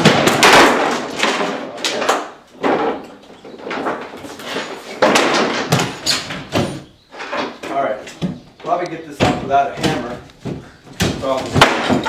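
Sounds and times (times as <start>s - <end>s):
wood scraping: 0.0s - 12.0s
wooden knocks and bangs: 0.0s - 12.0s.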